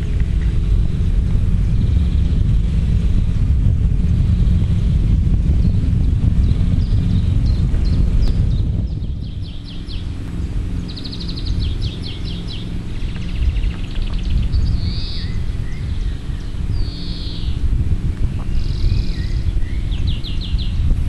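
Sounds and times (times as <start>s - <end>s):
heavy low rumble: 0.0s - 21.0s
songbirds singing trills: 0.0s - 21.0s.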